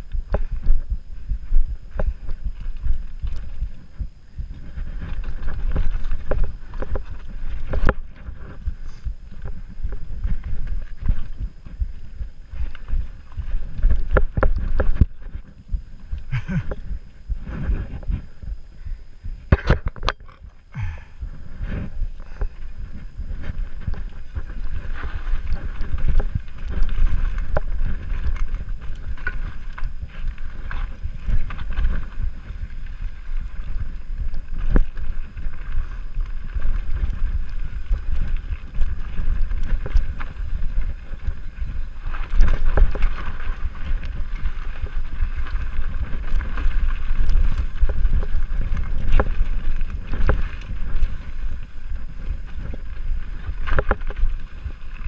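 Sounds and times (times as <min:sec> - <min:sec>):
bike rattling and knocking: 0:00.0 - 0:18.6, 0:19.3 - 0:55.0
bike tyres rumbling over dirt: 0:00.0 - 0:55.0
wind on microphone: 0:00.0 - 0:55.0.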